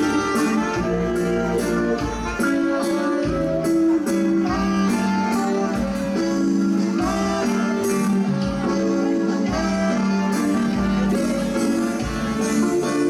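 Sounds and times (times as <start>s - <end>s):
waltz music with guitar: 0.0s - 13.0s.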